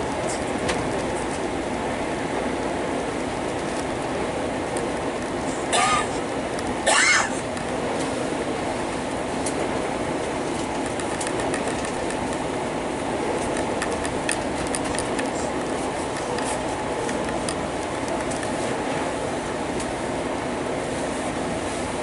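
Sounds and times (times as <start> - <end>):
bus engine and tyre rumble: 0.0 - 22.0.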